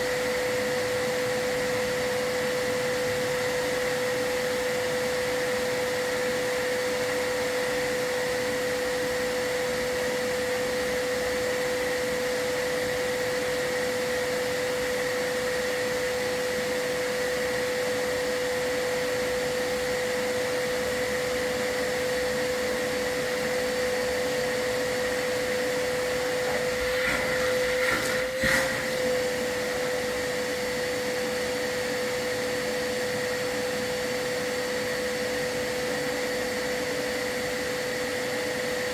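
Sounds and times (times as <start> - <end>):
vacuum motor whine: 0.0 - 38.9.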